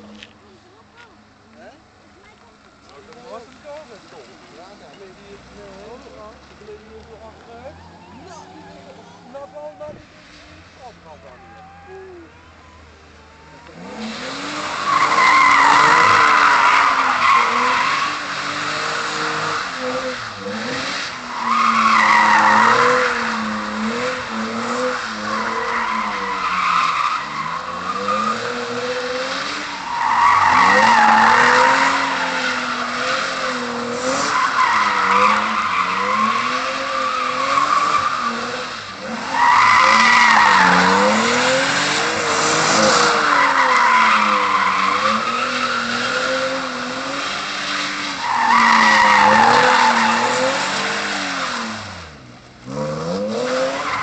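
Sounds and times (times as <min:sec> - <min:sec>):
car engine revving: 0:01.0 - 0:54.0
tyres squealing: 0:02.2 - 0:18.8, 0:19.6 - 0:51.4.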